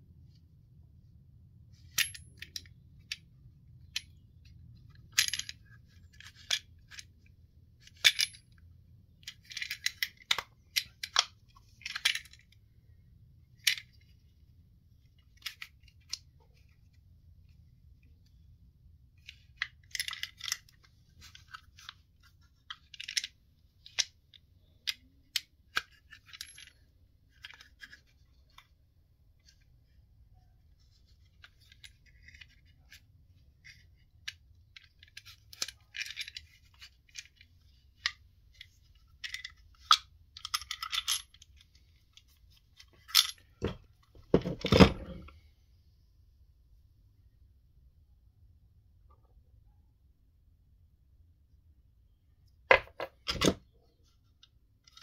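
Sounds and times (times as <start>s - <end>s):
small parts rattling and clinking: 1.7s - 18.5s, 19.2s - 28.8s, 29.4s - 45.4s, 52.7s - 55.0s.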